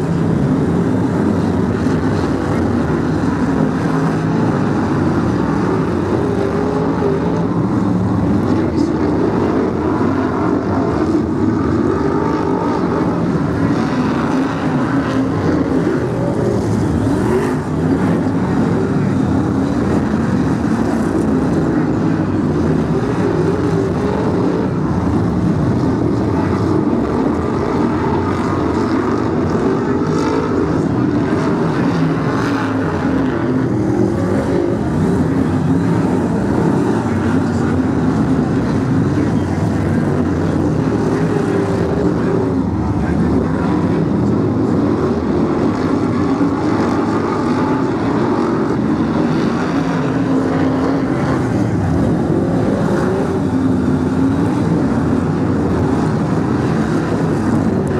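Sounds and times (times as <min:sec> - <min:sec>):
race car engines revving: 0:00.0 - 0:57.9.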